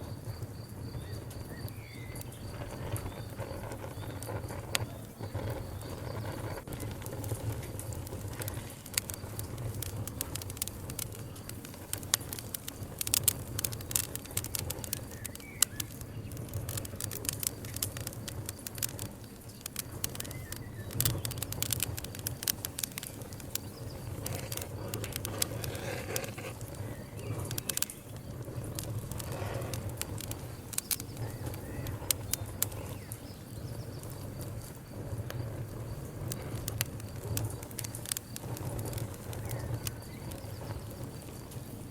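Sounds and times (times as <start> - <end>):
campfire crackling: 0.0 - 41.9
low rumble of flames: 0.0 - 41.9.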